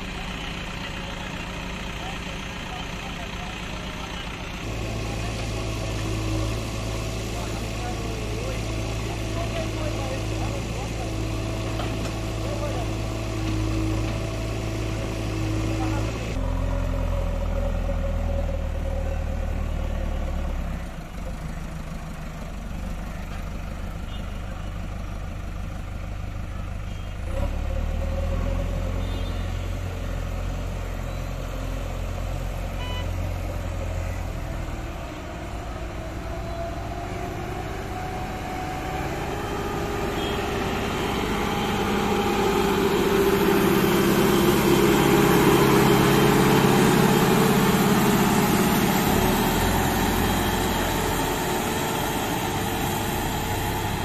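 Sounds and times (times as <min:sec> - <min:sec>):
heavy diesel machines running: 0:00.0 - 0:54.0.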